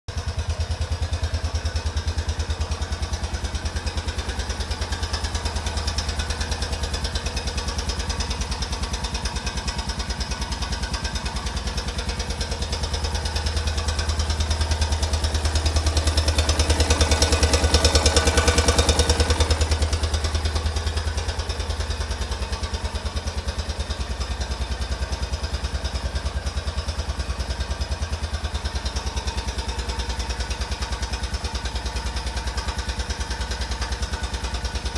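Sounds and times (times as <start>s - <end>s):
atv engine idling with knocking: 0.1s - 34.9s.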